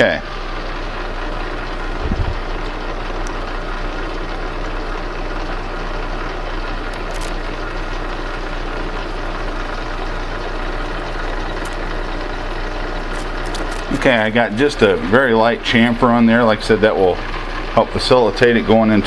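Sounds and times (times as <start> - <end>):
metal lathe humming: 0.0 - 19.0.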